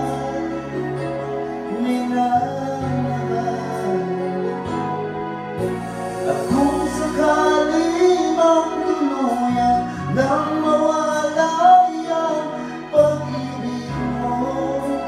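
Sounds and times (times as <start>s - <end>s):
man singing into microphone: 0.0s - 4.8s, 6.2s - 15.0s
musical backing track: 0.0s - 15.0s.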